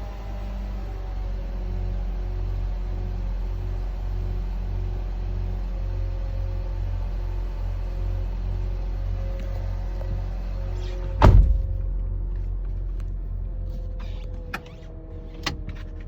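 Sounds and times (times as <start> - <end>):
car engine idling: 1.3 - 16.0
alternator whine: 1.9 - 16.0.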